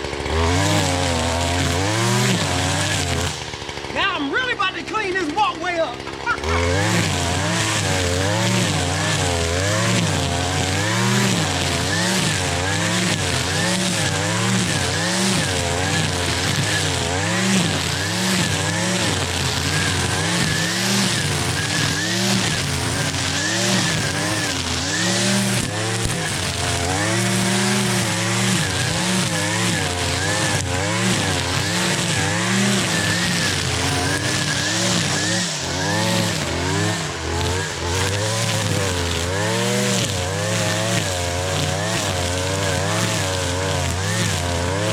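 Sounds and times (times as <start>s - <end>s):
string trimmer engine revving: 0.0s - 44.9s.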